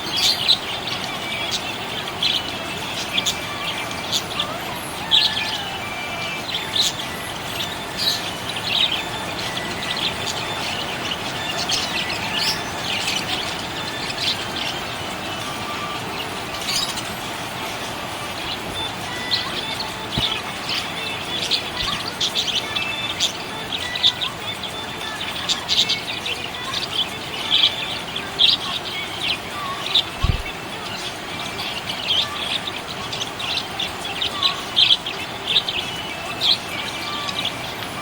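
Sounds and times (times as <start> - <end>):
parrots chirping: 0.0 - 38.0.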